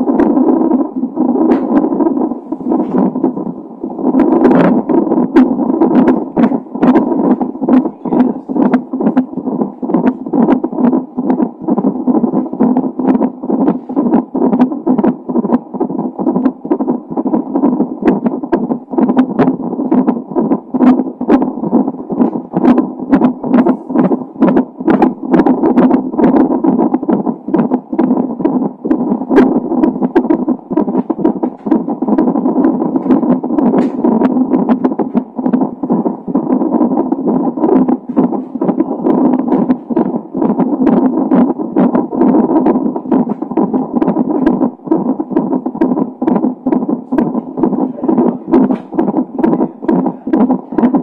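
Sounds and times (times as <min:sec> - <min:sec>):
fetal heartbeat whooshing pulses: 0:00.0 - 0:51.0.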